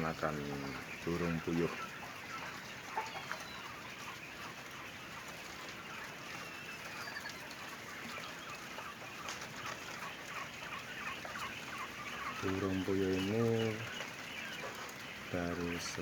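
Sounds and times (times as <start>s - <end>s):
quail chirping: 0.0s - 16.0s.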